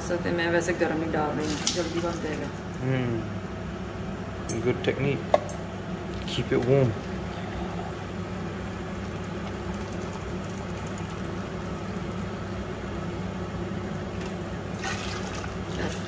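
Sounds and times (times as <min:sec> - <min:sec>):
pot heating hum and rushing: 0:00.0 - 0:16.0.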